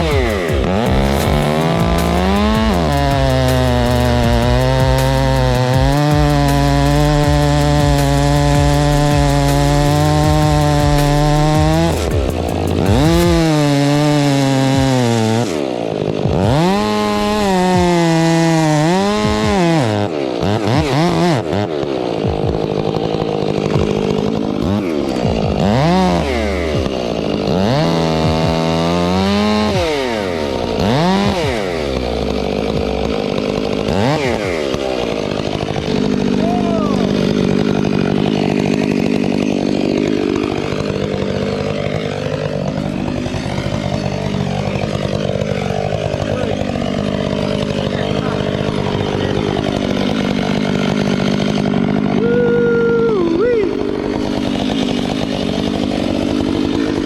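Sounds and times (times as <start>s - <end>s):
chainsaw running and revving: 0.0s - 57.0s.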